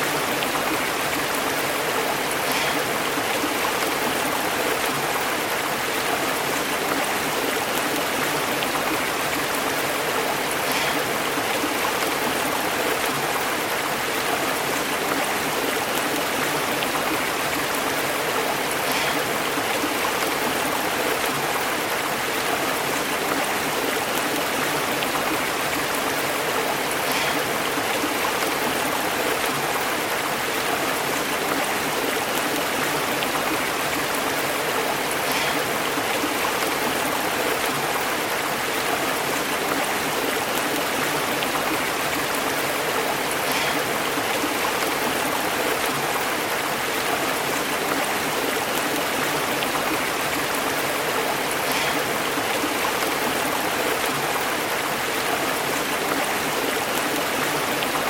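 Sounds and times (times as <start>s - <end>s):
stream burbling over rocks: 0.0s - 58.0s.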